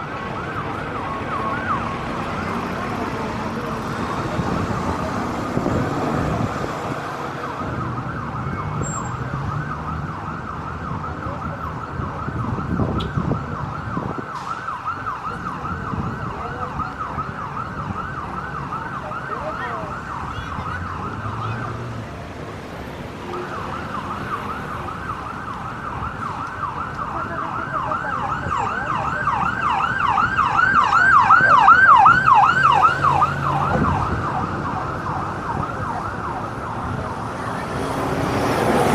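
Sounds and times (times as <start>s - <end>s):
siren yelping: 0.0s - 22.0s, 23.2s - 38.9s
street traffic: 0.0s - 38.9s.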